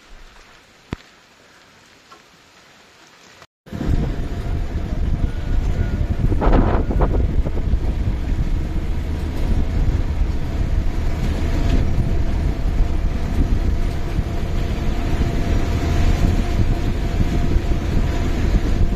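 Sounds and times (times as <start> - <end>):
vehicle rumble on dirt road: 3.7 - 18.9.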